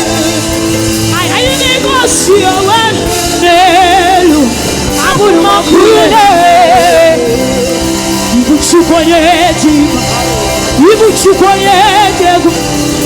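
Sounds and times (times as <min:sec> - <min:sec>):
instrumental accompaniment: 0:00.0 - 0:13.0
person singing with vibrato: 0:00.0 - 0:13.0.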